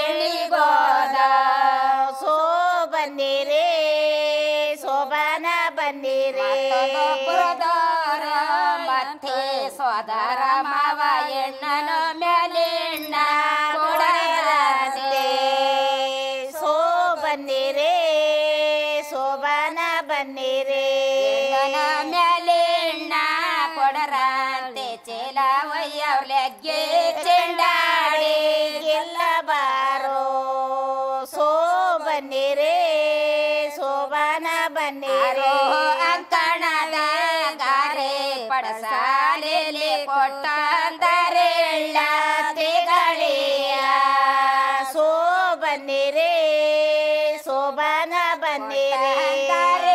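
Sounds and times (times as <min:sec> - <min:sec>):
woman singing: 0:00.0 - 0:49.9.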